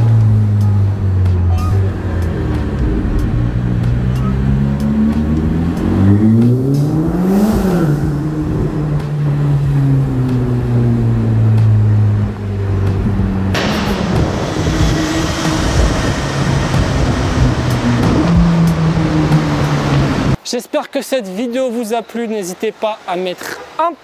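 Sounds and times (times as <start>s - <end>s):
car engine accelerating in tunnel: 0.0s - 20.4s.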